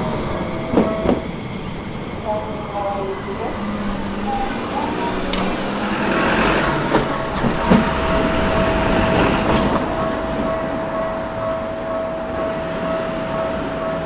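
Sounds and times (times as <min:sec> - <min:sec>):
steady high tone: 0:00.0 - 0:14.0
train rumbling: 0:00.0 - 0:14.0.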